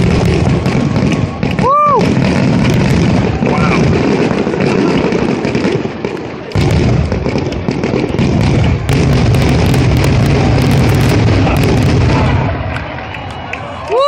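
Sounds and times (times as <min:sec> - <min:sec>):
fireworks booming and crackling: 0:00.0 - 0:13.6.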